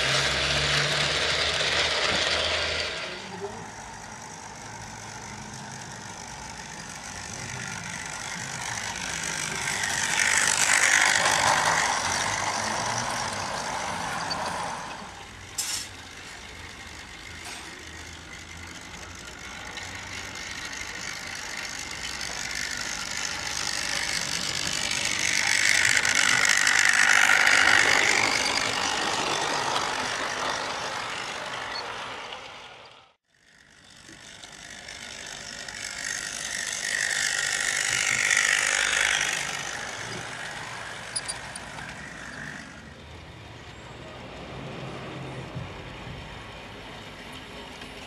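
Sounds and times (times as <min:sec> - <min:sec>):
model trains rattling over rail: 0:00.0 - 0:43.6.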